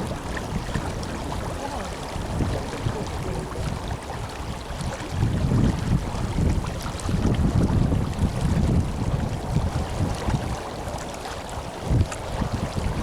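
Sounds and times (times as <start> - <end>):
river water rushing: 0.0 - 13.0
wind on microphone rumble: 0.0 - 13.0.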